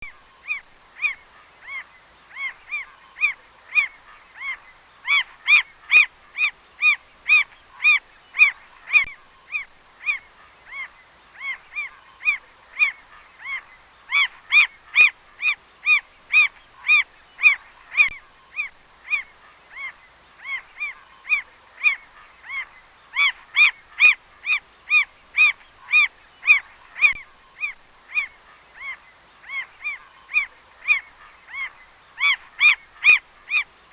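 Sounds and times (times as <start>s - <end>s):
mockingbird calling: 0.4s - 33.7s.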